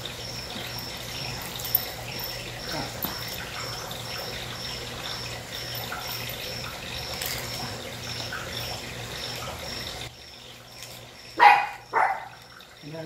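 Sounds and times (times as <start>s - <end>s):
trickling water-like hiss: 0.0s - 13.0s.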